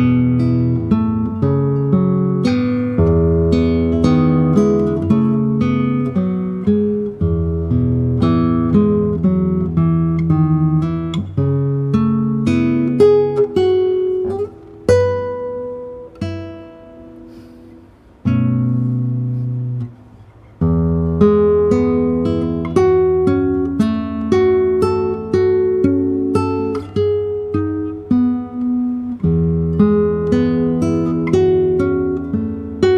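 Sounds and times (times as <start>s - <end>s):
fingerpicked acoustic guitar: 0.0s - 32.9s.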